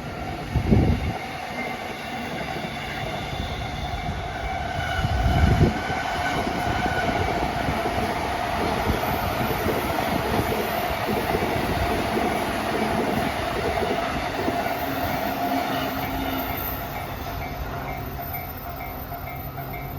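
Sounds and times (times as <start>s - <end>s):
crossing warning bell: 0.0s - 19.9s
freight train rumbling past: 0.0s - 19.9s.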